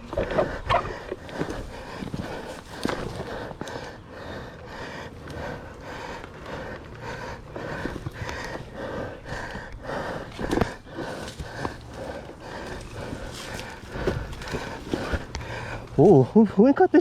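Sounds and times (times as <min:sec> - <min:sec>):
bike knocking and scraping: 0:00.0 - 0:16.2
person breathing hard and panting: 0:00.0 - 0:16.9.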